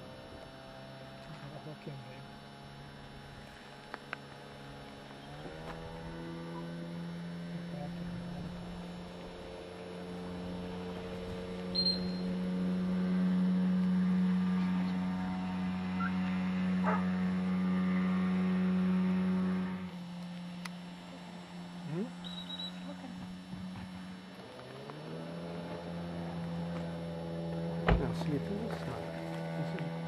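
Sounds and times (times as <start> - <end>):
low hum with overtones: 0.0 - 30.0.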